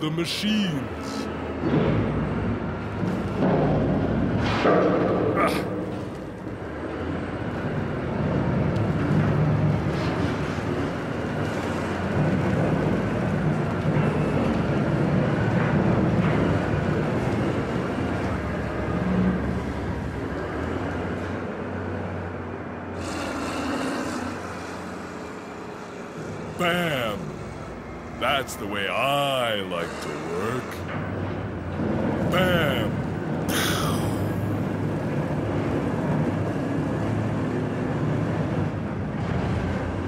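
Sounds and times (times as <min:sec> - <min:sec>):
heavy machine engine running: 0:00.0 - 0:40.0.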